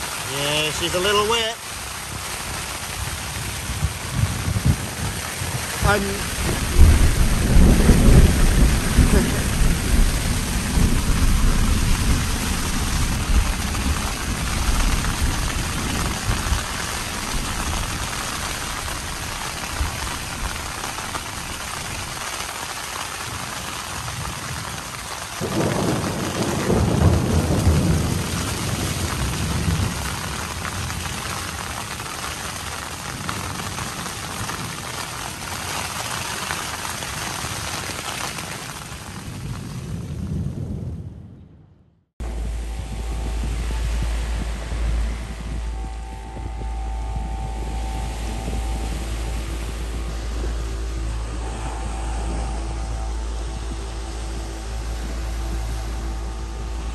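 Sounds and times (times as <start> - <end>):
wind and rain on a tent: 0.0 - 56.9.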